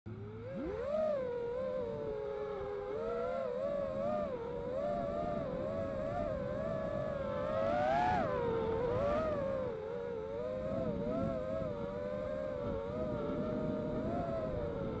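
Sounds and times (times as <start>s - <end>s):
quadcopter motors whining: 0.1s - 15.0s.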